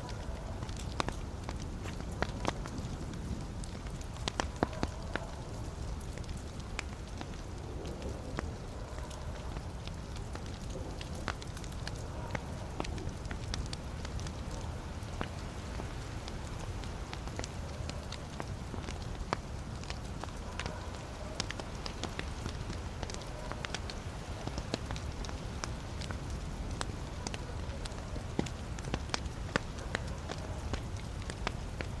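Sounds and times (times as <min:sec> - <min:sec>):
burning logs popping: 0:00.0 - 0:32.0
fire crackling and rumbling: 0:00.0 - 0:32.0.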